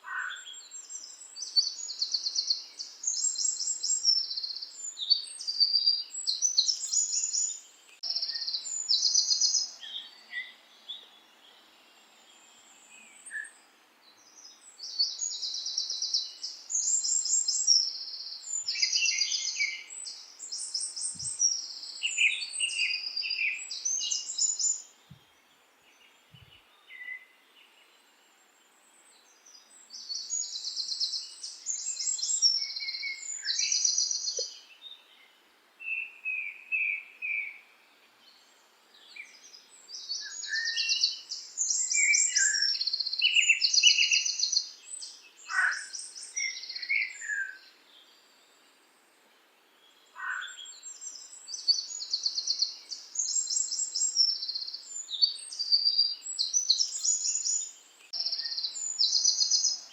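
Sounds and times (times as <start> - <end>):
songbirds trilling: 0.0 - 28.2, 29.2 - 48.7, 49.8 - 59.9.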